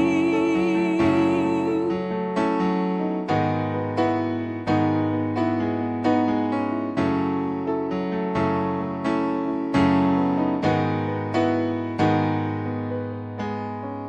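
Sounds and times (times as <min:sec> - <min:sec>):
piano sustained chords: 0:00.0 - 0:14.0.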